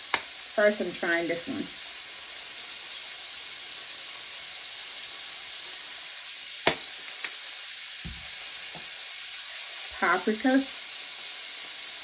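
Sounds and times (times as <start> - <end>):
vegetables sizzling in a skillet: 0.0 - 12.0.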